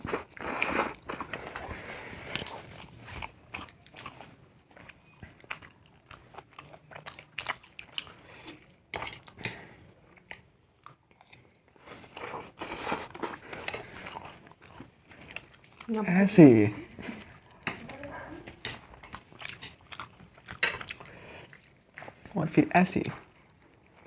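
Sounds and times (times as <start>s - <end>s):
people chewing noodles: 0.0s - 24.0s.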